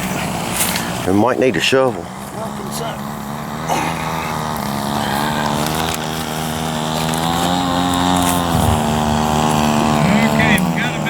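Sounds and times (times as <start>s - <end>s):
model airplane engine droning: 0.0s - 11.0s.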